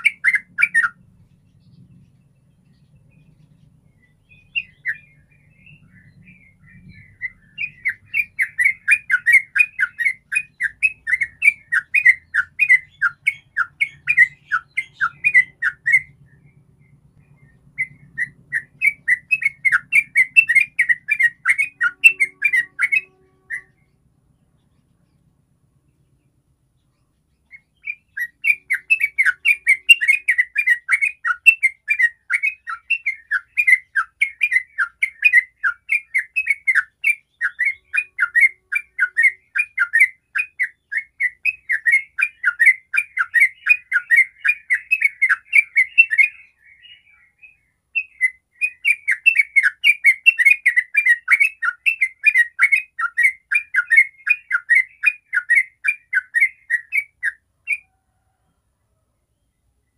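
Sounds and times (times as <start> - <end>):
bird singing chirpy notes: 0.0 - 58.3.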